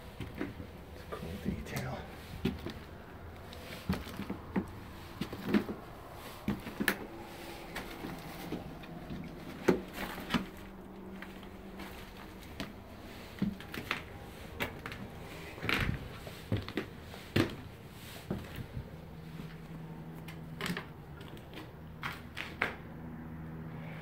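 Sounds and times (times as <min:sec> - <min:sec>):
footsteps on wooden stairs: 0:00.0 - 0:20.4
wood creaking underfoot: 0:00.0 - 0:22.8.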